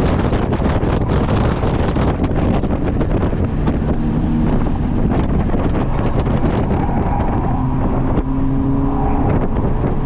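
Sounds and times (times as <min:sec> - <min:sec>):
car running noise: 0:00.0 - 0:10.0
wind buffeting microphone: 0:00.0 - 0:10.0.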